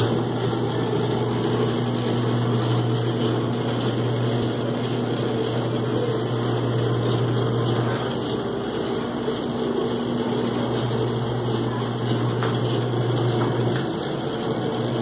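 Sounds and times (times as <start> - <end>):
etching press motor humming: 0.0 - 15.0.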